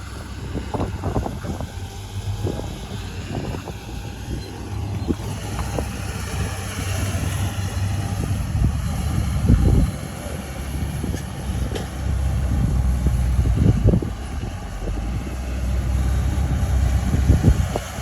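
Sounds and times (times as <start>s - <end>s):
bulldozer diesel engine rumbling: 0.0s - 18.0s.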